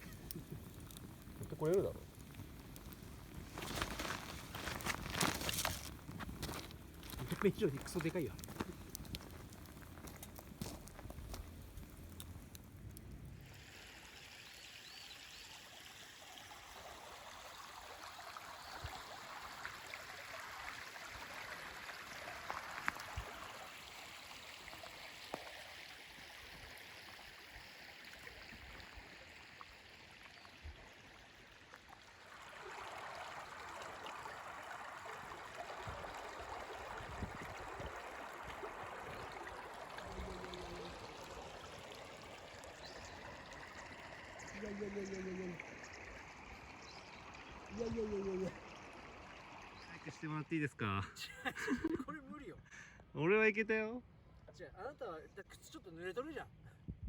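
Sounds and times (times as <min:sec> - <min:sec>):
river running over stones: 0:00.0 - 0:50.5.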